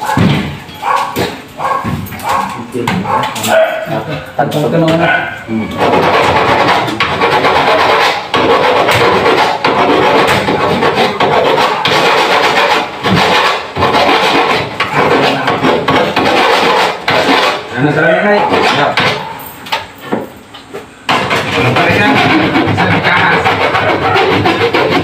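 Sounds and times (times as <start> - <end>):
scattered knocks: 0.0 - 17.7, 18.4 - 20.3, 21.1 - 25.0
hand scraping and wiping surfaces: 0.8 - 25.0.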